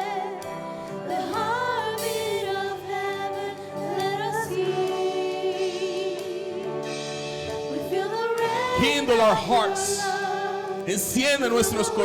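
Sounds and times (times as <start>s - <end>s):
steady musical accompaniment: 0.0s - 12.0s
voices singing with vibrato: 1.0s - 6.9s, 7.5s - 12.0s.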